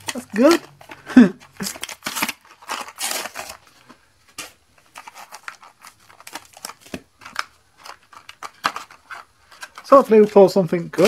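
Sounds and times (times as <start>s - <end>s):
cardboard tearing: 0.0s - 11.0s
plastic wrappers crinkling: 0.0s - 11.0s.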